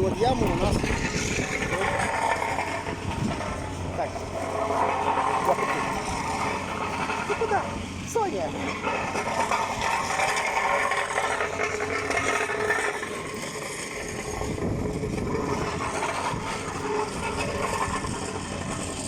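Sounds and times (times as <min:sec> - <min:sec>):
rattling: 0:00.0 - 0:19.0
road-repair machinery engine: 0:00.0 - 0:19.0
scraping: 0:00.0 - 0:19.0.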